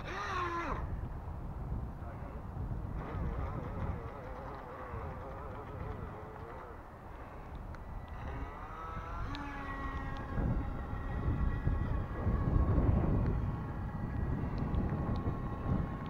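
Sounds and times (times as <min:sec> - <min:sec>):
electric boat motor whining: 0:00.0 - 0:01.0, 0:02.9 - 0:16.0
gusty low rumble: 0:00.0 - 0:16.0.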